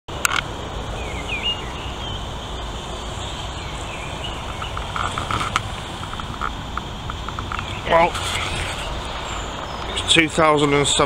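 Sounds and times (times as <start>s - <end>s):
small birds chirping: 0.1s - 11.0s
steady low rumble: 0.1s - 11.0s.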